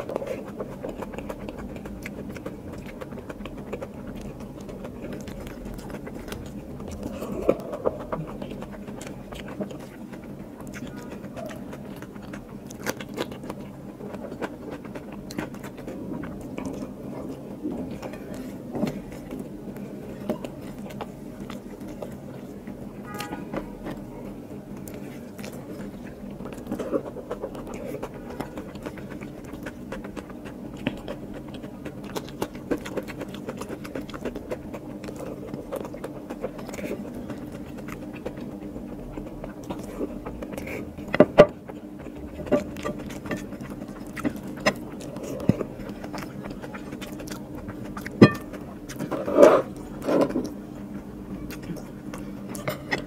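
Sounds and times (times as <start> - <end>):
low steady hum: 0.0 - 53.0
wet chewing and lip smacks: 0.0 - 53.0.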